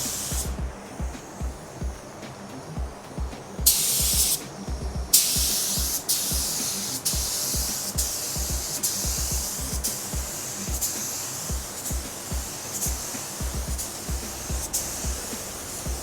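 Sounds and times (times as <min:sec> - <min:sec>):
music with steady beat: 0:00.0 - 0:16.0
paint spray gun hissing: 0:00.0 - 0:16.0.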